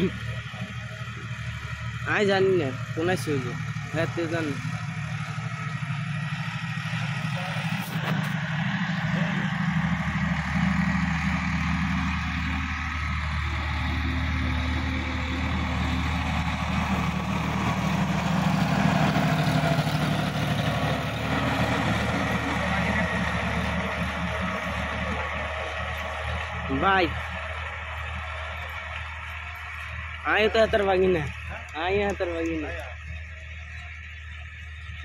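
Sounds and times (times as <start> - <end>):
rotavator tilling soil: 0.0 - 35.0
tractor diesel engine: 0.0 - 35.0.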